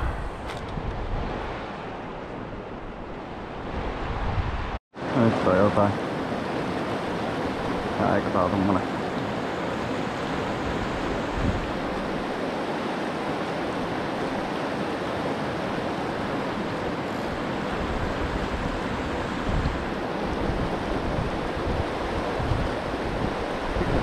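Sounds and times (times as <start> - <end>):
wind buffeting microphone: 0.0 - 4.8, 9.3 - 24.0.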